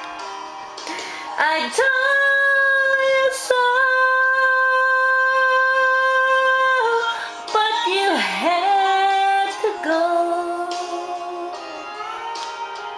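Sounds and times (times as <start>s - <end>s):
woman singing without words: 1.4s - 12.9s.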